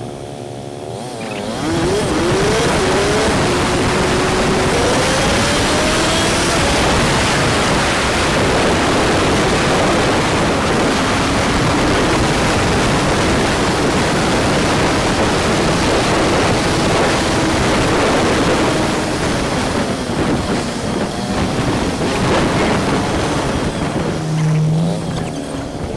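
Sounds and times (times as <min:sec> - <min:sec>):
motorcycle engine: 0:00.0 - 0:25.9
wind rushing over microphone: 0:00.0 - 0:25.9.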